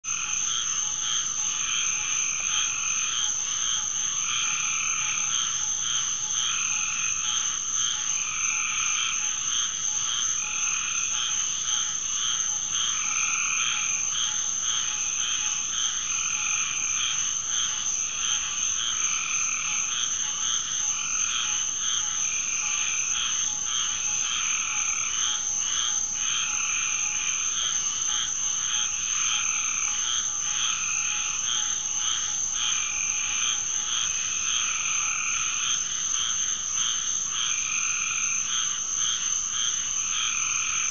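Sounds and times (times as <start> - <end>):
crickets trilling: 0.1 - 40.9
frogs calling: 0.1 - 40.9.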